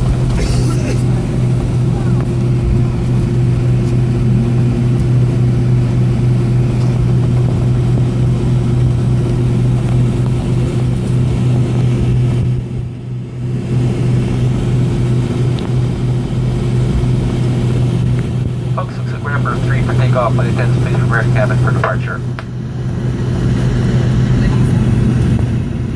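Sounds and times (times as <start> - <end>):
aircraft cabin engine drone: 0.0 - 25.9
low hum: 0.0 - 25.9.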